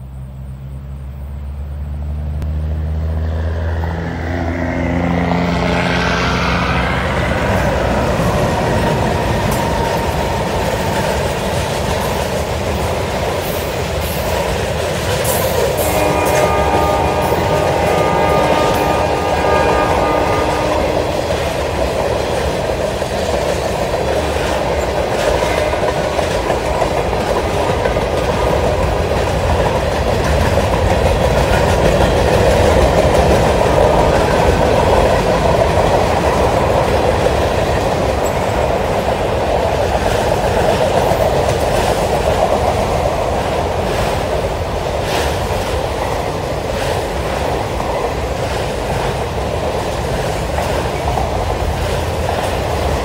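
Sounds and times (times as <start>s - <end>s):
train wheels rumbling on rails: 0.0s - 53.0s
clickety-clack: 5.7s - 53.0s.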